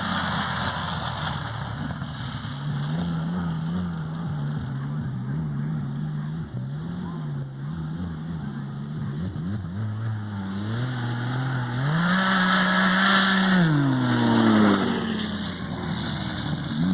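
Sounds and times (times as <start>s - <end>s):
snowmobile engine revving: 0.0s - 16.9s.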